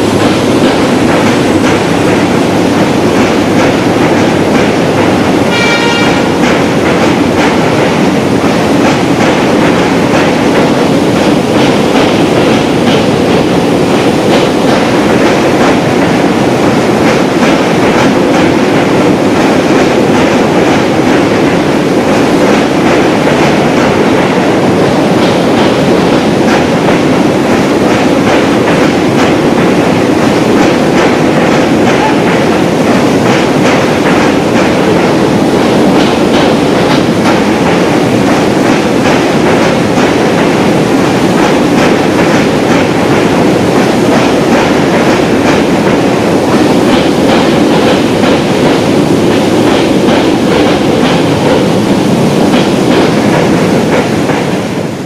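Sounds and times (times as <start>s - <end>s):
clickety-clack of rail joints: 0.0s - 55.0s
train wheels rumbling on bridge: 0.0s - 55.0s.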